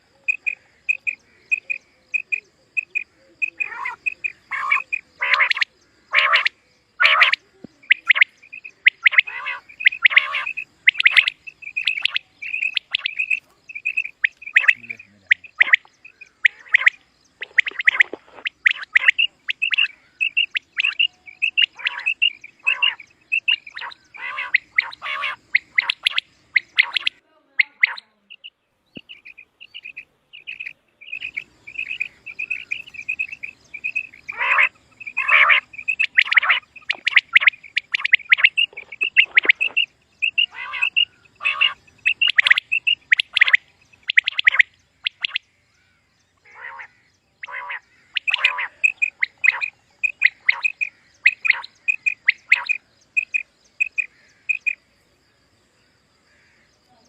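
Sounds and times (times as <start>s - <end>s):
quail calling: 0.0s - 54.8s.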